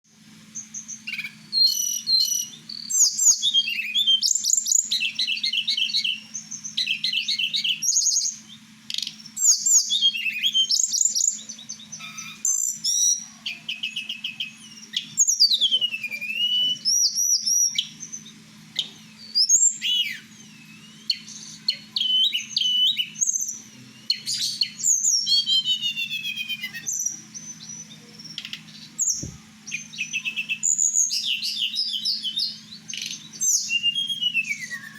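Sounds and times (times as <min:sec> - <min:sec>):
bird singing trills and whistles: 0:00.4 - 0:34.9.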